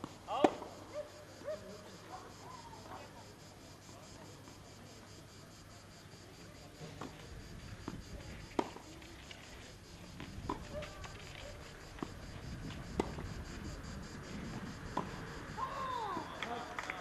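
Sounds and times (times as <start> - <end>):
faint background voices: 0.3 - 14.4.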